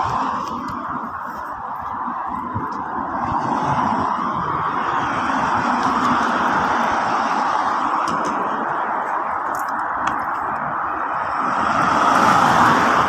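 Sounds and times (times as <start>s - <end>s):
car passing: 0.0s - 13.0s
road traffic hiss: 0.0s - 13.0s.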